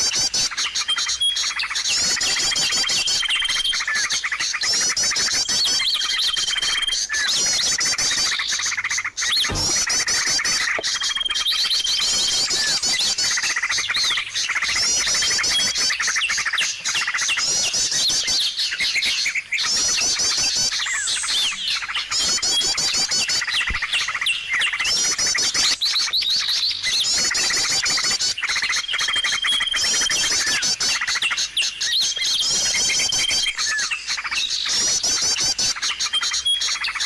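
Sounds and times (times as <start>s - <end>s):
songbirds chirping and trilling: 0.0s - 37.0s.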